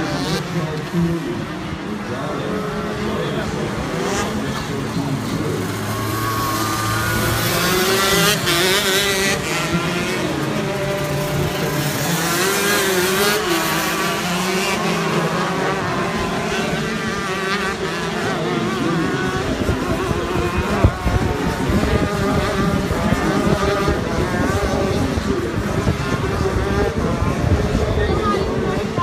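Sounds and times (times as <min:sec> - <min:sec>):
kart engines racing: 0:00.0 - 0:29.0.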